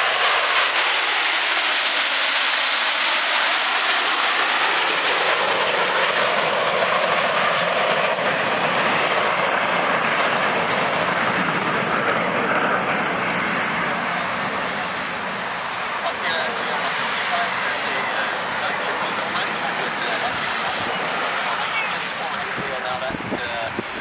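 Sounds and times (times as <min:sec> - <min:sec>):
jet engines flying past: 0:00.0 - 0:24.0.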